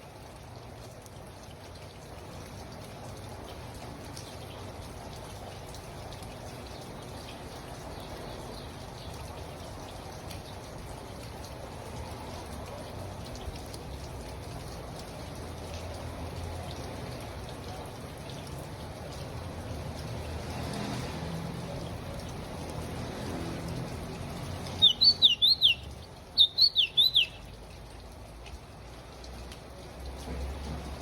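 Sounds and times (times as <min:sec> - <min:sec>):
rain pattering on surfaces: 0:00.0 - 0:31.0.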